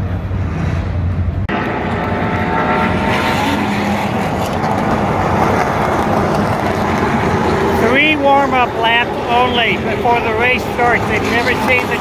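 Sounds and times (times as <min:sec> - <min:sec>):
drone of many race engines: 0:00.0 - 0:12.0.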